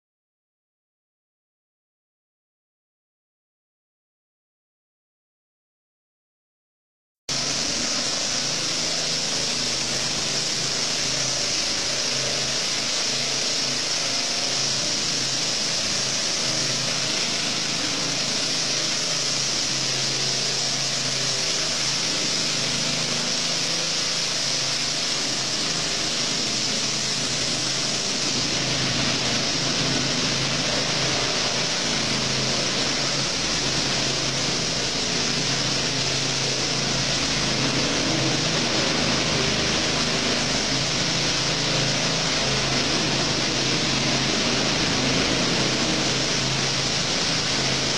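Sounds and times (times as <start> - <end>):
blades hissing on cement: 7.3 - 47.9
power trowel engine running: 7.3 - 47.9.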